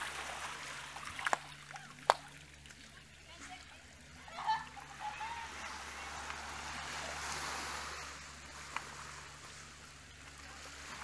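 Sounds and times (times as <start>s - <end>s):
small waves on pebble beach: 0.0s - 11.0s.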